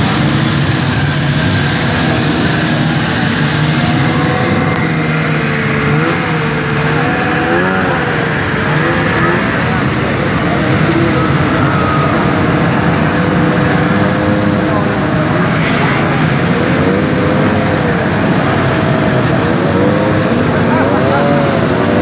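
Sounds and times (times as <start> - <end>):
snowmobile engines droning: 0.0 - 22.0.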